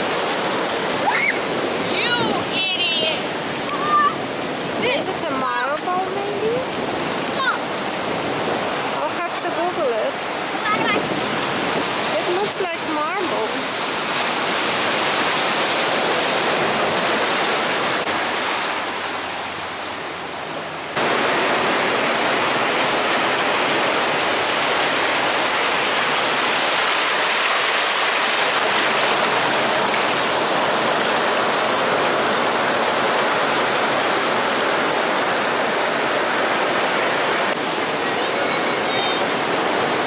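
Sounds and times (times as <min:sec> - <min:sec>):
surf on rocky beach: 0:00.0 - 0:40.0.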